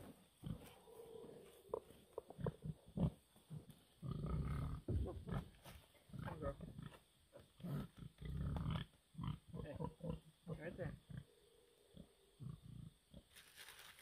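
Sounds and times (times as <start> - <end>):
pigs grunting: 0.4 - 7.0, 7.6 - 13.3.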